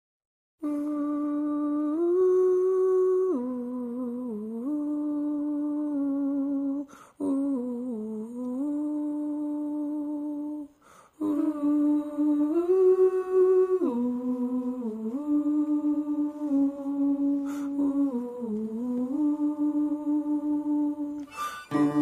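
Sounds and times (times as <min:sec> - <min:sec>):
person humming a slow melody: 0:00.6 - 0:22.0.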